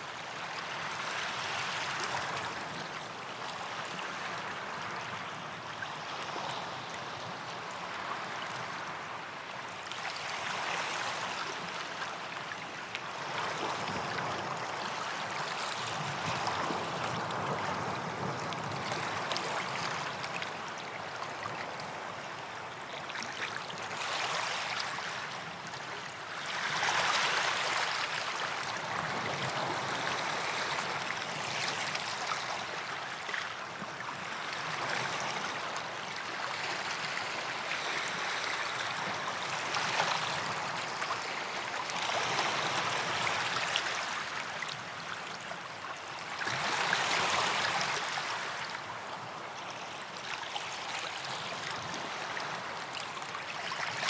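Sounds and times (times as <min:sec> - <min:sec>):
waves washing up beach: 0:00.0 - 0:54.0.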